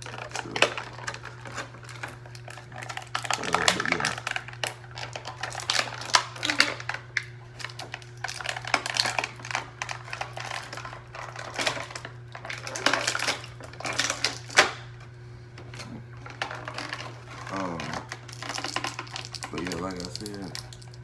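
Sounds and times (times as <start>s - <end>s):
plastic packaging crinkling: 0.0s - 14.8s, 16.2s - 21.0s.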